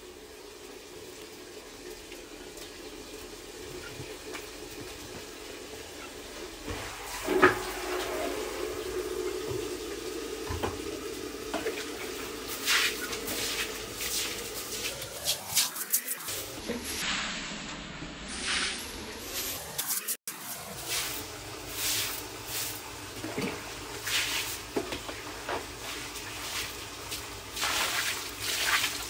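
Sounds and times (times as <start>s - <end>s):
water running from a tap: 0.0s - 15.1s, 20.8s - 29.0s.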